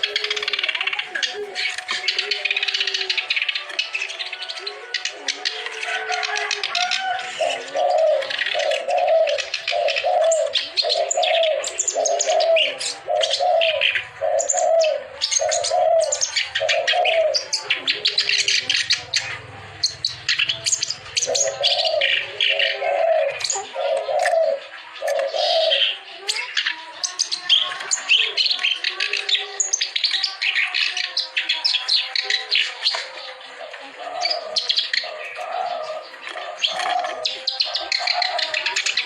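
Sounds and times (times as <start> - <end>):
reed warbler chattering song: 0.0 - 39.0.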